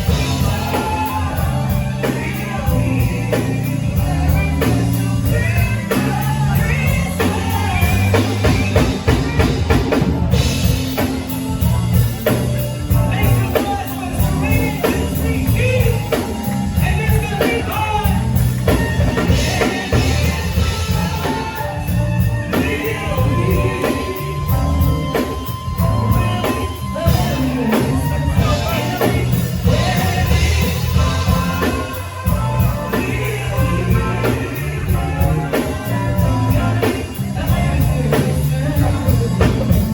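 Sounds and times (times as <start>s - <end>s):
bass: 0.0s - 39.9s
drum kit: 0.0s - 39.9s
live band music: 0.0s - 39.9s
person singing: 0.0s - 39.9s.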